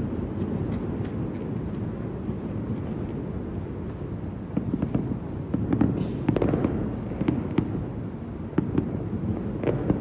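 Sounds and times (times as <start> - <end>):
distant fireworks cracks: 0.0 - 10.0.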